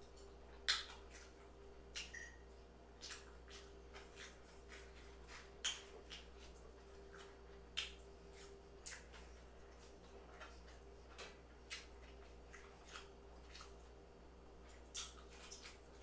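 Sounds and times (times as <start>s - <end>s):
chewing fries: 0.0s - 16.0s.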